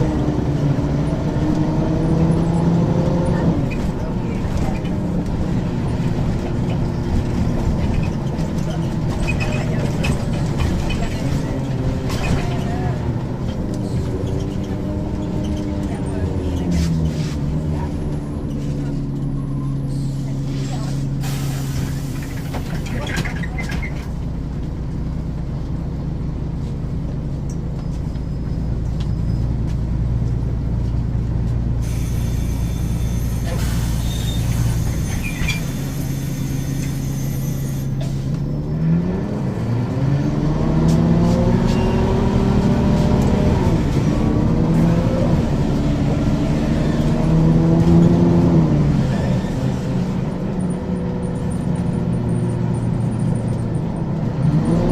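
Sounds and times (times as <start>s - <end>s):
bus engine idling and accelerating: 0.0s - 54.9s.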